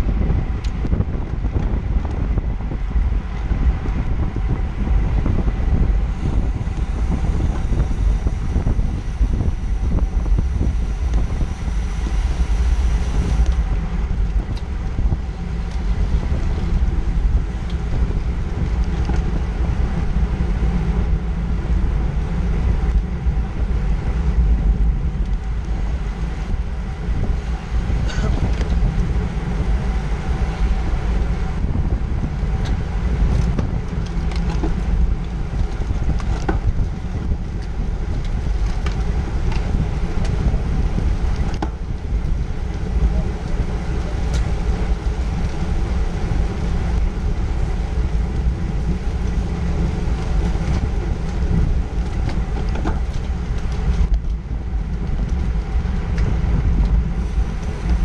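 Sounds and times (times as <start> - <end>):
wind buffeting microphone: 0.0 - 58.0
bicycle clicks: 0.1 - 58.0.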